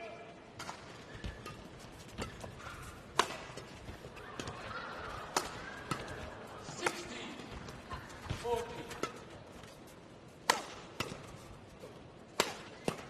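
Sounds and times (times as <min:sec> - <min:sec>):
rackets striking shuttlecock: 0:00.6 - 0:09.8, 0:10.4 - 0:11.5, 0:12.3 - 0:13.0.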